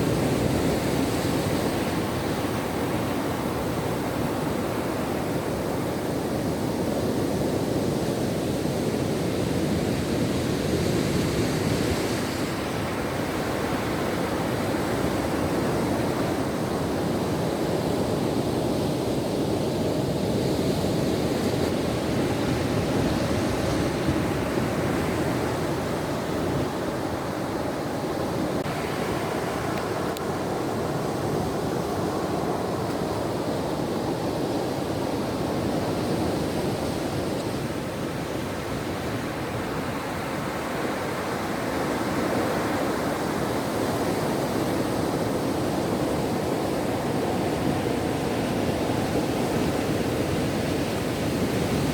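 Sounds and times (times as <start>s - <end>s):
ocean surf breaking on shore: 0.0s - 51.9s.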